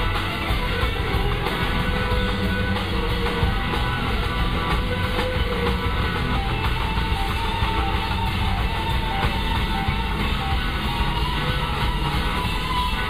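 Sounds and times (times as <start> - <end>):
electric guitar: 0.0 - 13.0
live blues-rock band playing: 0.0 - 13.0.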